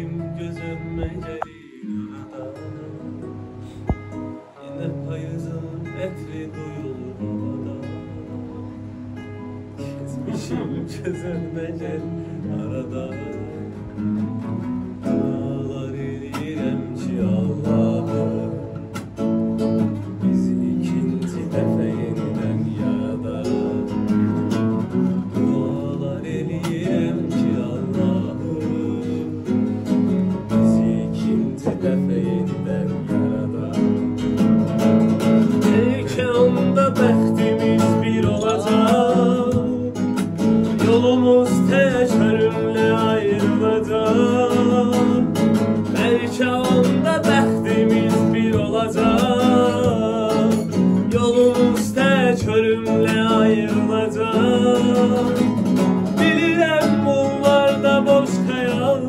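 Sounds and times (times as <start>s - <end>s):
man singing: 0.0s - 9.0s, 9.7s - 59.0s
strummed acoustic guitar: 0.0s - 59.0s.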